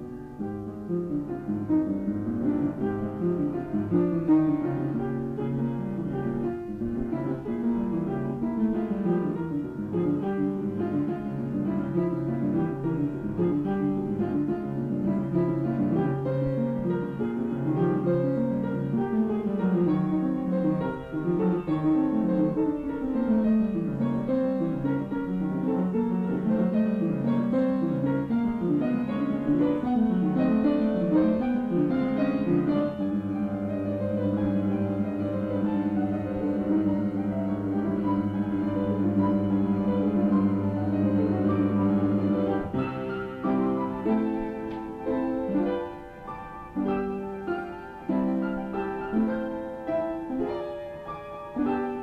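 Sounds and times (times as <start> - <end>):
piano piece: 0.0 - 52.0.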